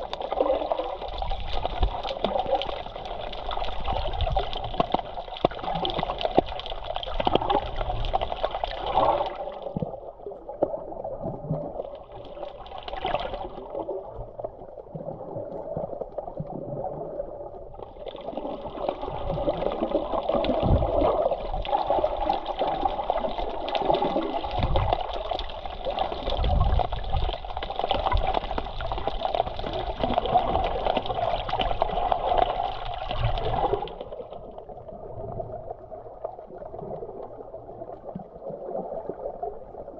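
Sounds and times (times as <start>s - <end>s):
sea water splashing: 0.0s - 39.9s.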